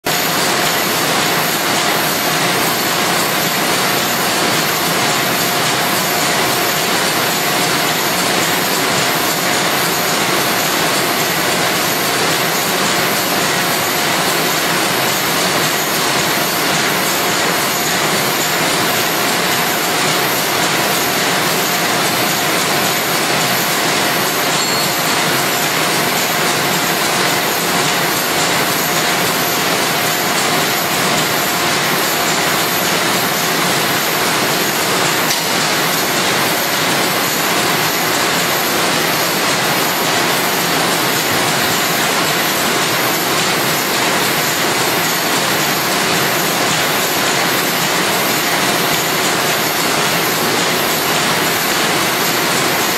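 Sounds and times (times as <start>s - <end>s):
envelope machine running: 0.1s - 52.9s
fast regular machine ticking: 0.1s - 52.9s.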